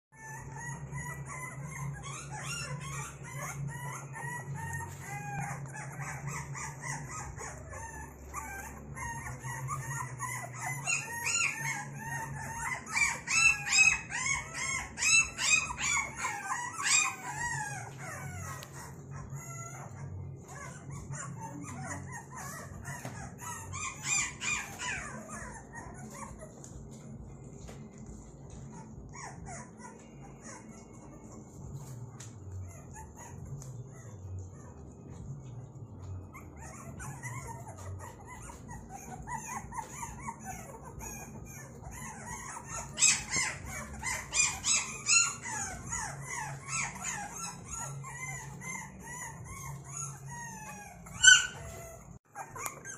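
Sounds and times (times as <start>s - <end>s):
puppies whining and yelping: 0.1s - 52.9s.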